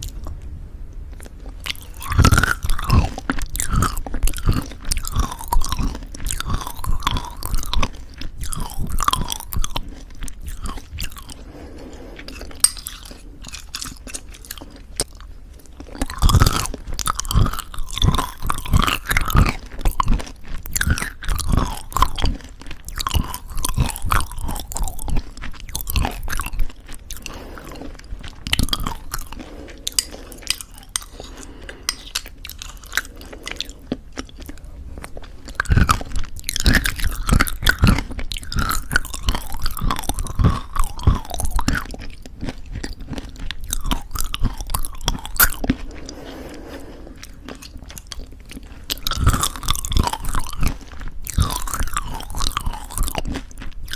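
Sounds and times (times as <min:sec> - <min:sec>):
chewing crunchy granola: 0:00.0 - 0:53.9.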